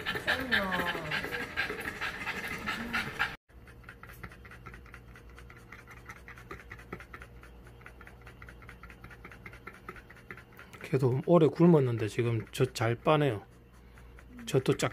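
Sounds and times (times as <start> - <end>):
dog panting: 0.0 - 14.9.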